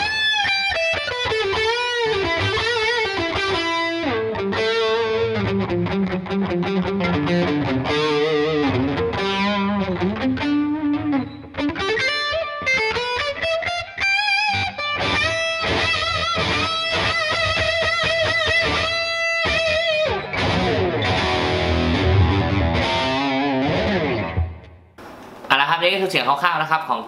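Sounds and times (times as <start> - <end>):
distorted electric guitar: 0.0 - 25.6.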